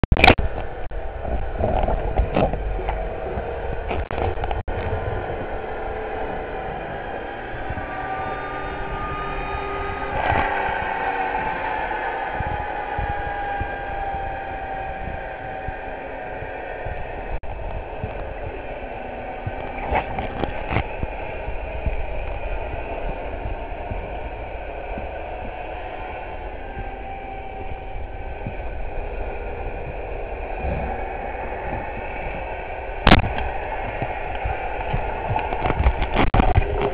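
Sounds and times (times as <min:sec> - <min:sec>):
boat engine heard underwater: 0:00.0 - 0:36.9
faint whining tones: 0:00.2 - 0:36.9.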